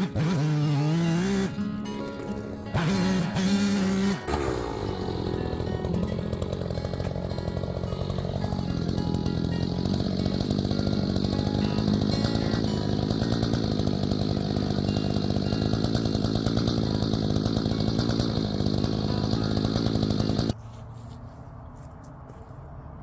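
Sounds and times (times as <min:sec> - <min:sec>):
chainsaw running at high speed: 0:00.0 - 0:20.6.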